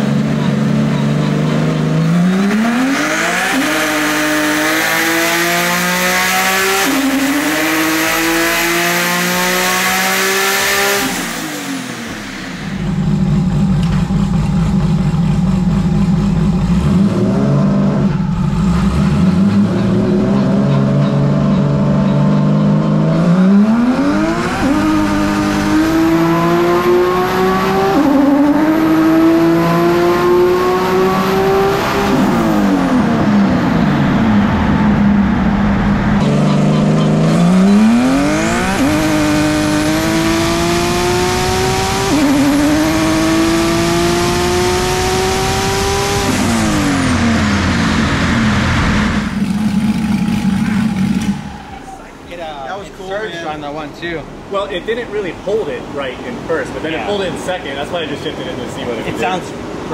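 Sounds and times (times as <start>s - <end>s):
turbo engine revving on dyno: 1.7s - 13.7s, 14.9s - 51.5s.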